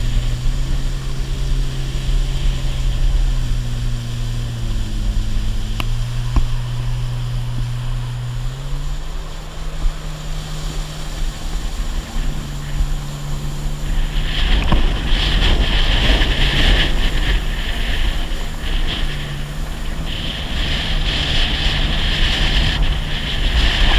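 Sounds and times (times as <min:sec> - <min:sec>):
personal watercraft engine running: 0:00.0 - 0:23.9
rushing water and wind: 0:00.0 - 0:23.9.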